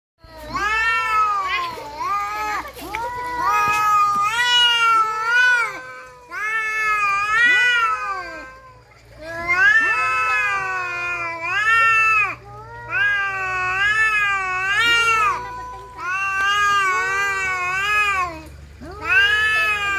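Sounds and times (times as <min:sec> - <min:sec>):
cats yowling: 0:00.2 - 0:19.9.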